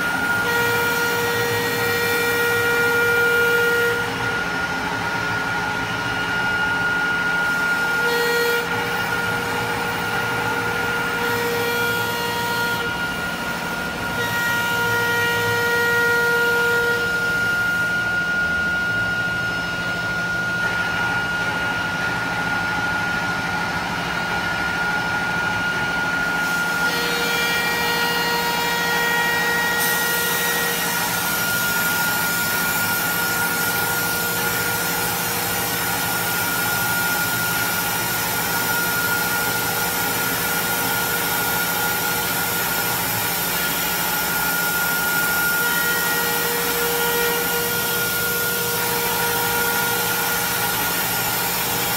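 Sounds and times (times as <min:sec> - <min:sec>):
router spindle high whine: 0:00.0 - 0:51.9.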